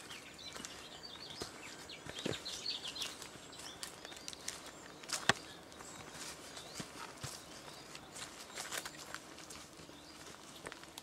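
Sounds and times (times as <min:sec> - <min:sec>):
forest birds chirping: 0:00.0 - 0:11.0.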